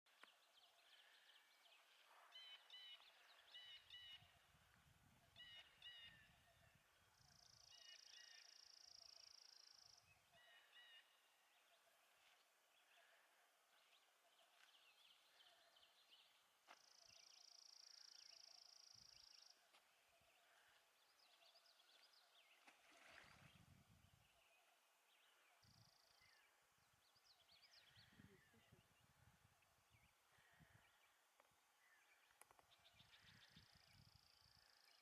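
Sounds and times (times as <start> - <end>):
faint birdsong chirps: 0.1 - 35.0.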